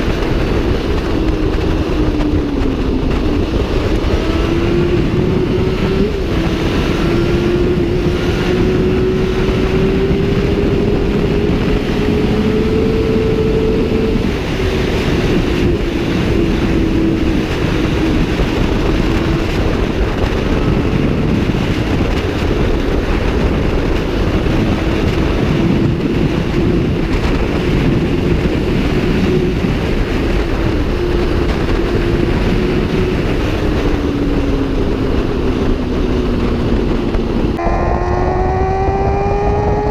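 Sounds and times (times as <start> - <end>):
motorcycle engine at high speed: 0.0 - 39.9
wind rush on microphone: 0.0 - 39.9.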